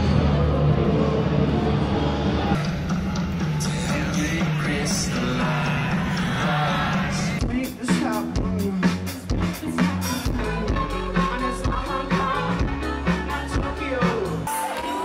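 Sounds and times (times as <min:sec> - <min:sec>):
music with drum beat and bass: 0:02.5 - 0:15.0.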